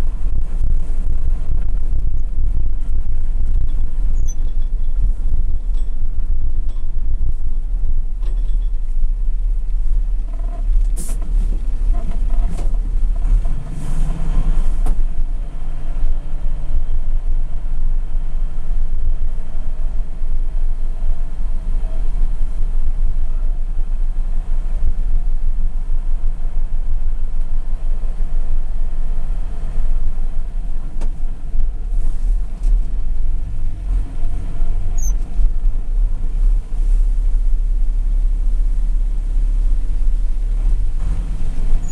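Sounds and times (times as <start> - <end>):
truck engine rumbling: 0.0 - 41.9.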